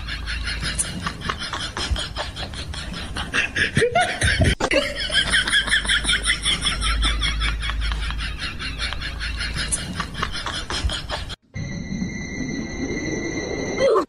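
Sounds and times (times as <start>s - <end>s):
person laughing: 0.0s - 11.4s.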